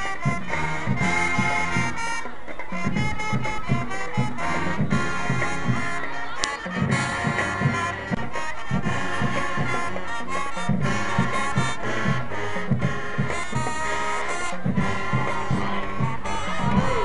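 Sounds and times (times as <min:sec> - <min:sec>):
marching band playing: 0:00.0 - 0:17.0
punchy low-brass bass notes: 0:00.0 - 0:17.0.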